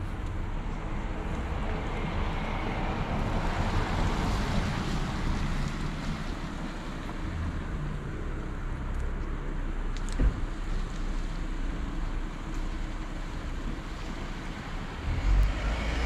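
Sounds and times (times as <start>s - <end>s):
traffic rushing on wet road: 0.0s - 16.0s
wind rumbling on microphone: 0.0s - 16.0s.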